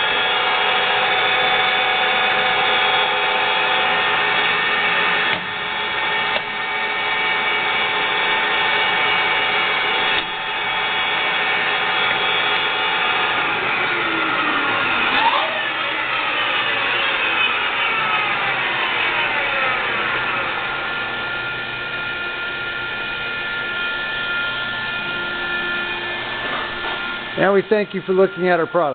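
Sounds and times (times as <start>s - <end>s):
lathe whine: 0.0s - 28.9s.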